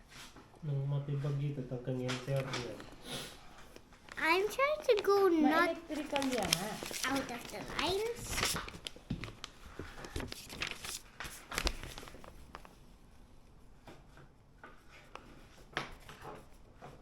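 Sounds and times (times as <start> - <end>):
faint scratching on paper: 1.0 - 17.0.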